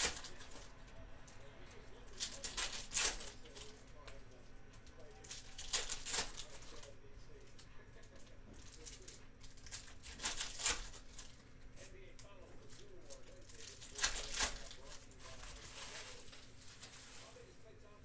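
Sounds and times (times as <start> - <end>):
foil wrappers crinkling and tearing: 0.0 - 17.8.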